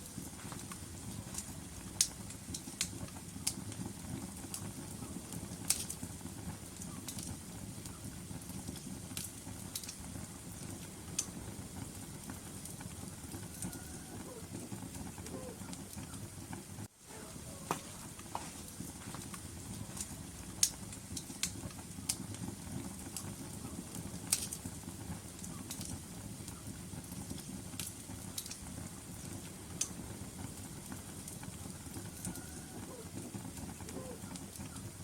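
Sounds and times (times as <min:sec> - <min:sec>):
burning logs crackling and popping: 0:00.0 - 0:35.0
fire rumbling: 0:00.0 - 0:35.0.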